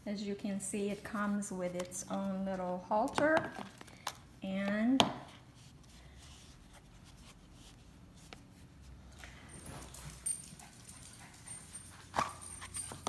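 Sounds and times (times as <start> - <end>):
faint handling sounds: 0.6 - 13.0.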